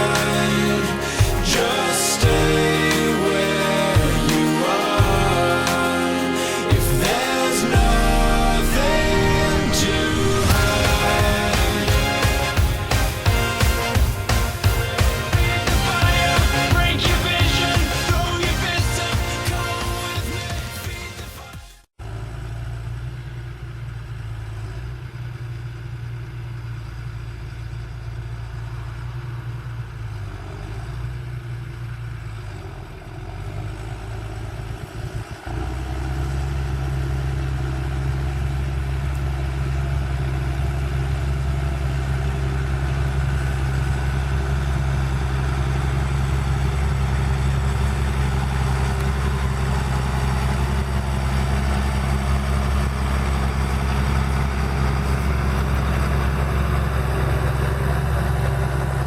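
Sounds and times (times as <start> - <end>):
tractor diesel engine running: 0.0 - 21.0, 22.0 - 59.0.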